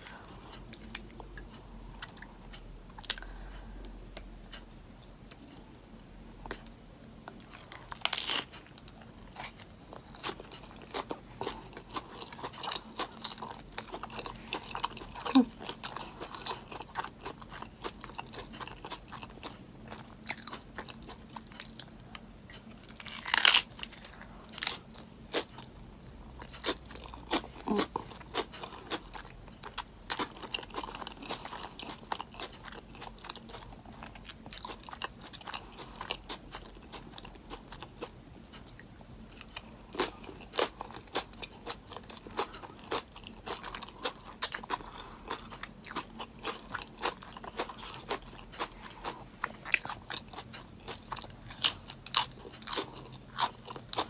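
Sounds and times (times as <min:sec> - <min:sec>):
crunchy burger chewing: 0:07.3 - 0:25.8, 0:26.4 - 0:54.0.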